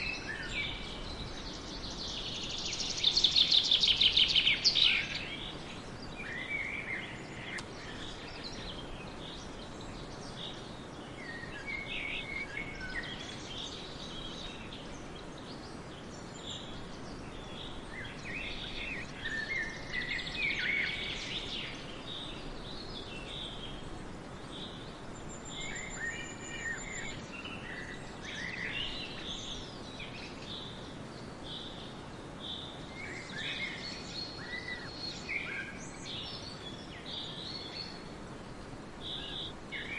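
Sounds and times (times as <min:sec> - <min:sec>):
forest ambience hiss: 0:00.0 - 0:39.9
songbirds singing and calling: 0:00.0 - 0:39.9.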